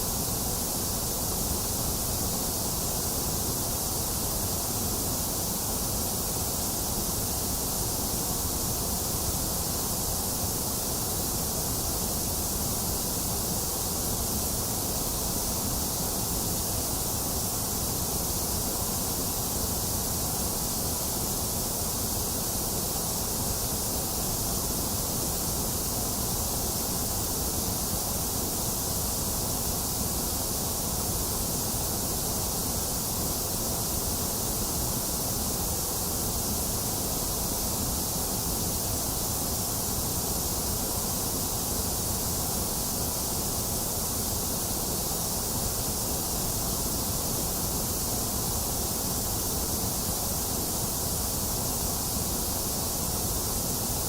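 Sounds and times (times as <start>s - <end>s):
electronic white noise: 0.0s - 54.0s.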